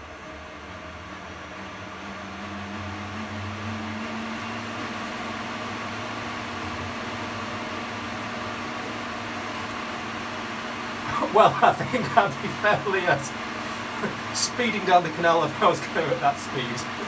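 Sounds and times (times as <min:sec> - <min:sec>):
electric motor humming: 0:00.0 - 0:17.0.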